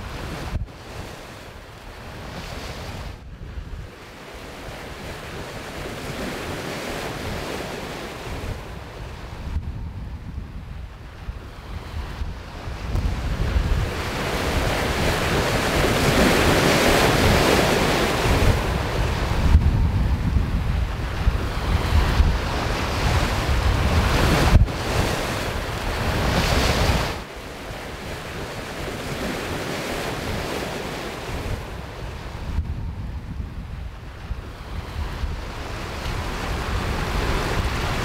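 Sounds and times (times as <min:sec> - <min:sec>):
rushing waves: 0:00.0 - 0:38.0
wind buffeting microphone: 0:00.0 - 0:38.0.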